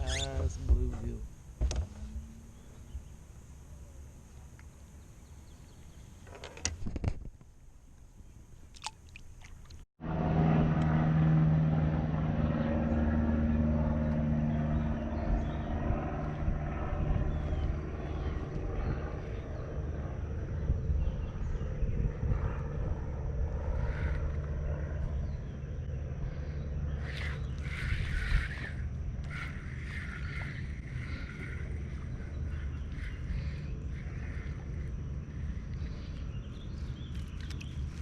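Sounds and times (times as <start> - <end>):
low engine drone: 0.0 - 6.7, 10.0 - 38.0.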